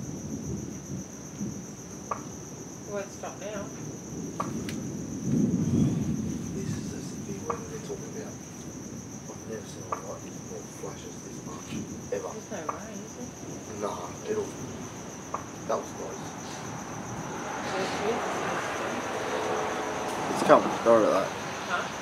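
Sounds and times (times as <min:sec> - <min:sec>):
distant thunder rumble: 0:00.0 - 0:22.0
insects chirring: 0:00.0 - 0:22.0.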